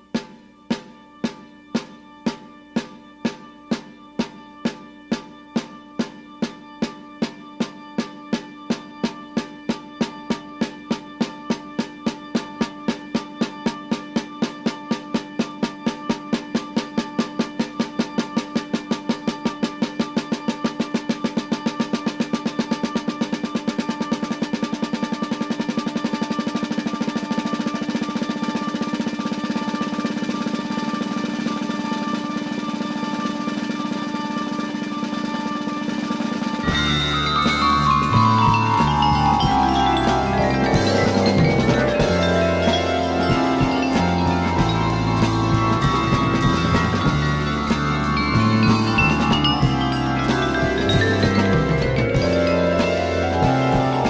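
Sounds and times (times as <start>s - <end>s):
snare drum strokes and roll: 0.0s - 54.0s.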